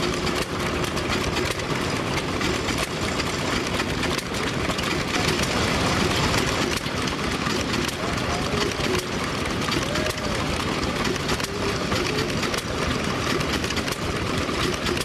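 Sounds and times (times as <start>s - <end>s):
old machinery engine running: 0.0s - 15.0s.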